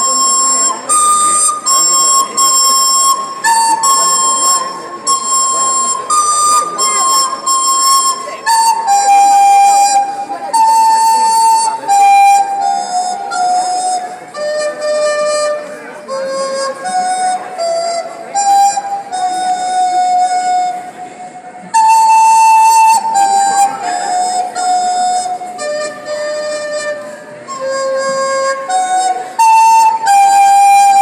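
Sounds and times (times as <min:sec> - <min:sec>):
flute playing slow melody: 0:00.0 - 0:31.0.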